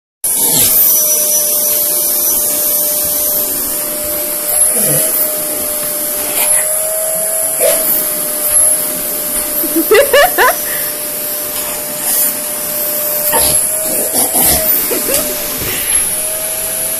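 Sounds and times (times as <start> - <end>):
vacuum cleaner whine: 0.2 - 16.9.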